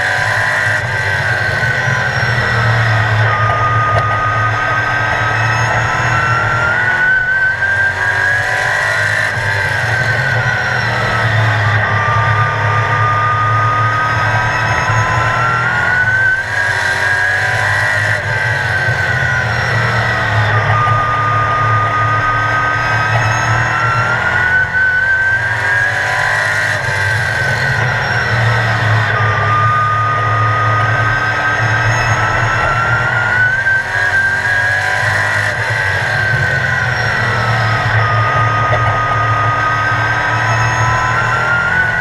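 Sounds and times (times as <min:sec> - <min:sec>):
racing car engine: 0:00.0 - 0:42.0.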